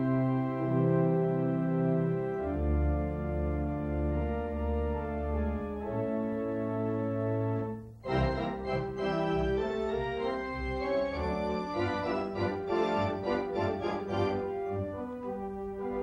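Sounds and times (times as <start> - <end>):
organ music: 0.0 - 16.0.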